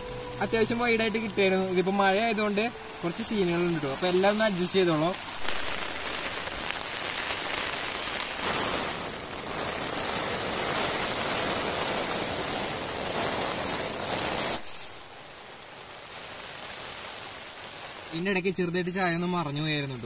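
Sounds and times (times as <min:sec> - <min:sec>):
heavy rain on a tent: 0:00.0 - 0:20.0.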